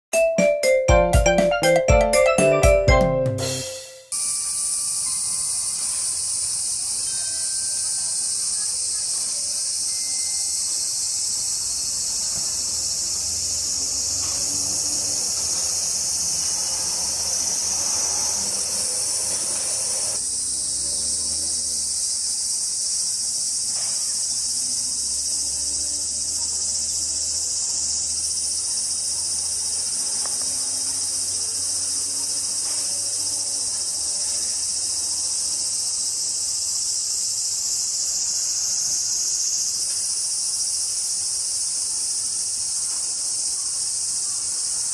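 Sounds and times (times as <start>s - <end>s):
shrill insect chorus: 4.1s - 44.9s.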